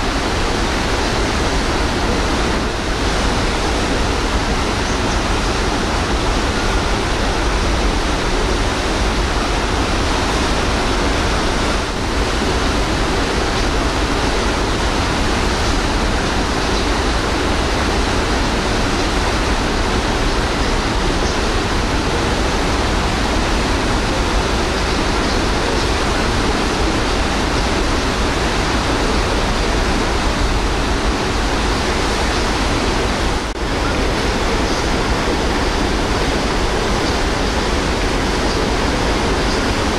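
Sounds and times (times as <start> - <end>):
sea water rushing in wake: 0.0 - 39.9.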